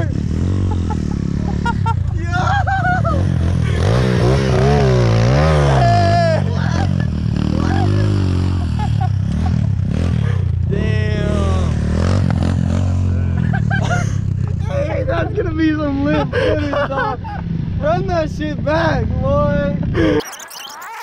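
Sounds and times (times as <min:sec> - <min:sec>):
dirt bike engine revving: 0:00.0 - 0:18.1.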